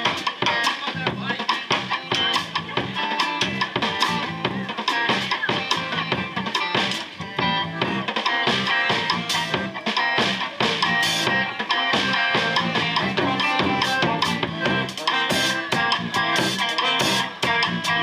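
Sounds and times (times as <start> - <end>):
live rock band: 0.0 - 18.0
loud close drums: 0.0 - 18.0.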